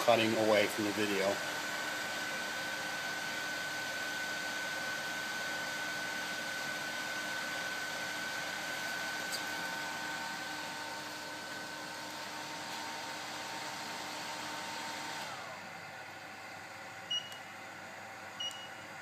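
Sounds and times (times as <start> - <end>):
cooling fan whirring: 0.0 - 19.0.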